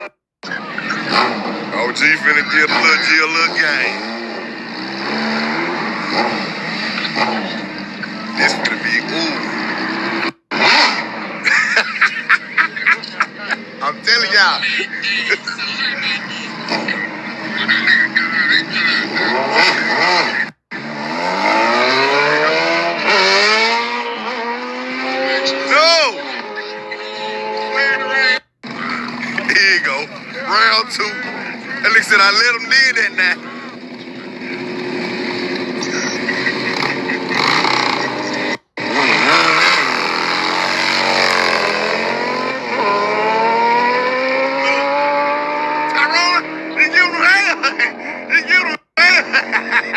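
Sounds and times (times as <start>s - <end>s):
motorcycle engine revving and accelerating: 0.0s - 49.9s.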